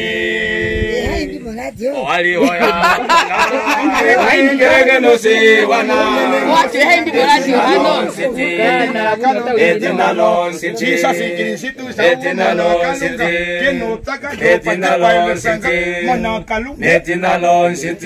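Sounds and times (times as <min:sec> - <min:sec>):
group singing in harmony: 0:00.0 - 0:01.4, 0:02.5 - 0:18.0.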